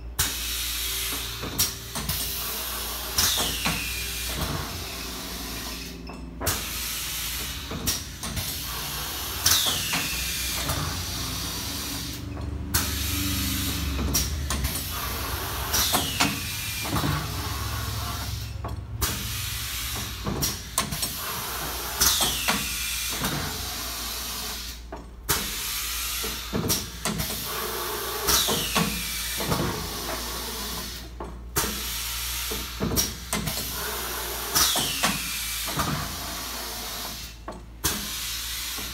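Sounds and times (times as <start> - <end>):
air cylinders hissing: 0.2 - 38.9.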